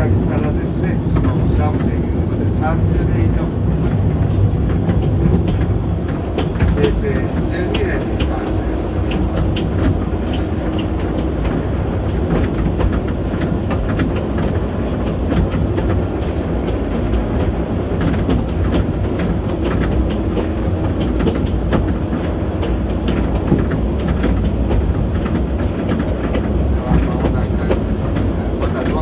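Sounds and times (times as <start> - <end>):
train wheels rumbling on rail: 0.0 - 29.0
wheels clicking and clacking: 0.0 - 29.0.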